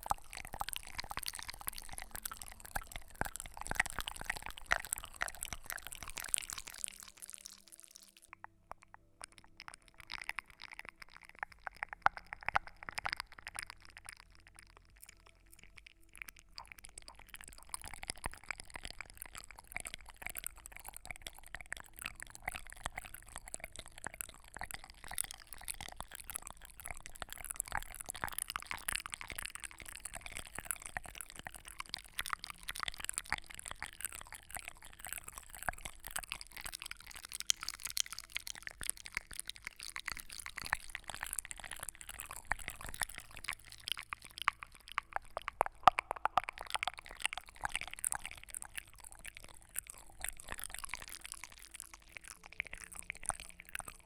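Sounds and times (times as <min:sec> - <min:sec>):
small crackles and clicks: 0:00.0 - 0:54.0.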